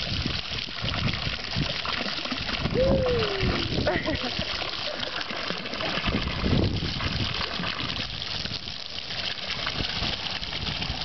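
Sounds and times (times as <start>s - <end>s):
water splashing into stone basin: 0.0s - 11.0s.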